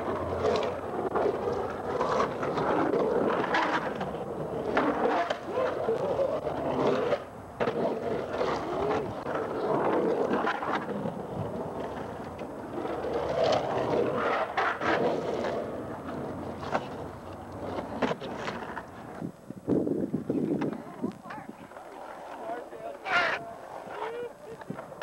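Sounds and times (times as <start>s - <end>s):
skateboard wheels rolling on concrete: 0.0s - 25.0s.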